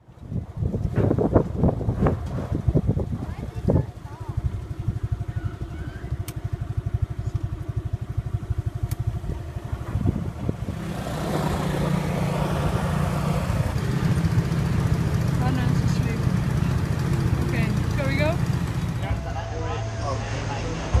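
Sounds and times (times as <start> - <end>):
rushing wind: 0.0 - 19.3
small motorbike engine: 0.3 - 19.3.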